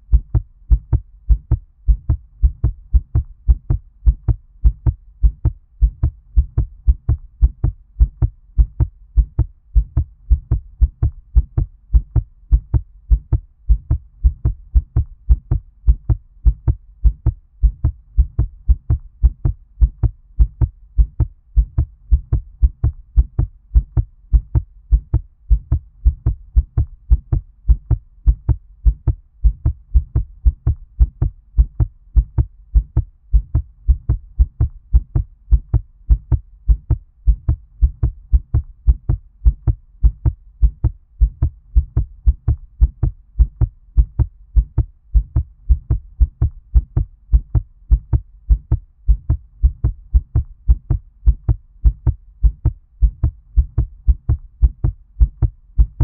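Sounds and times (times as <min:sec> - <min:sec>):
fast muffled heartbeat: 0:00.0 - 0:56.0.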